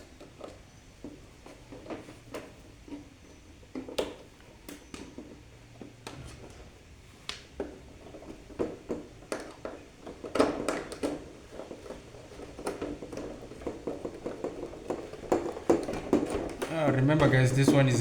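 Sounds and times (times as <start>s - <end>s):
hands working electrical wires: 0.0s - 18.0s.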